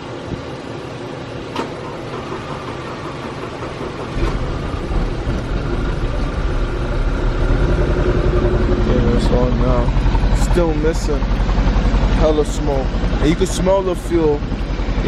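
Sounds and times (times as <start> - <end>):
car engine running rough: 0.0 - 15.0.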